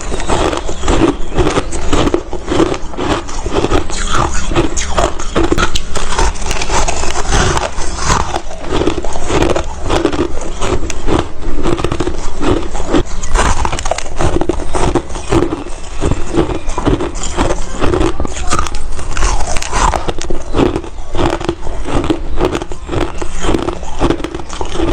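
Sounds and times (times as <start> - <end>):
ice crunching between teeth: 0.0 - 24.9.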